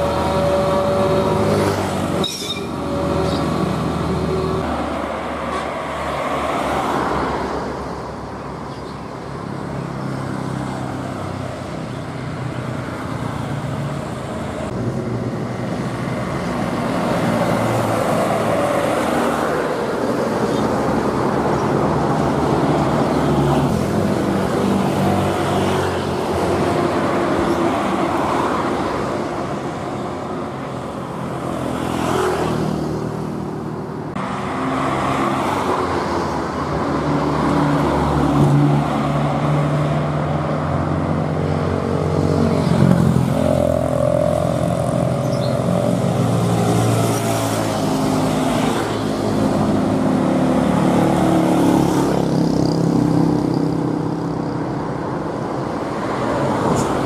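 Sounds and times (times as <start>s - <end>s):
bus passing: 0.0s - 57.0s
cars passing: 0.0s - 57.0s
trucks passing: 0.0s - 57.0s
motorcycles passing: 9.6s - 57.0s.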